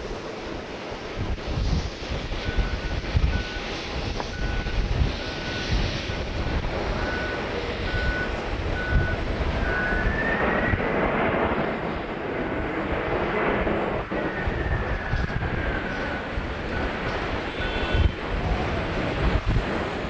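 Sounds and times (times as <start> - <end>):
jet engines rushing and whining: 0.0 - 20.0.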